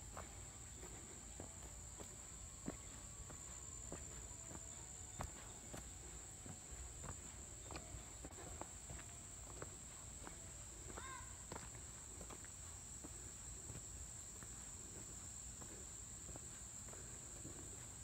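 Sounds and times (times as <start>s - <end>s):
footsteps on dirt and leaves: 0.0s - 15.0s
high-pitched insect drone: 0.0s - 18.0s.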